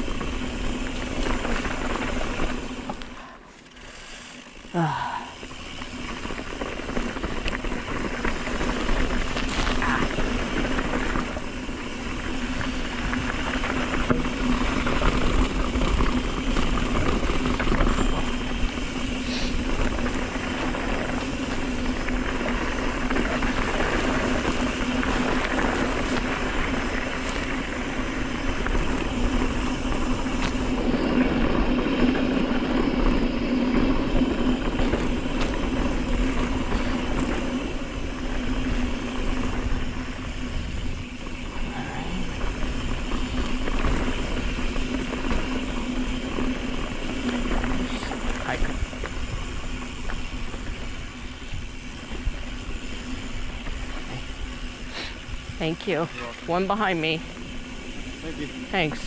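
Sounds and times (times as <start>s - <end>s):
bike rattle: 0.0s - 59.0s
tyres running over gravel: 0.0s - 59.0s.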